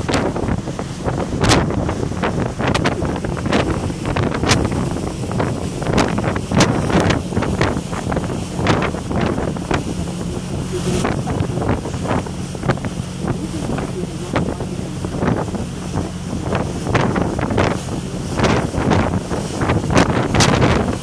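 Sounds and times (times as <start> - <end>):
boat engine drone: 0.0 - 21.0
boat wake washing: 0.0 - 21.0
wind buffeting microphone: 0.0 - 21.0.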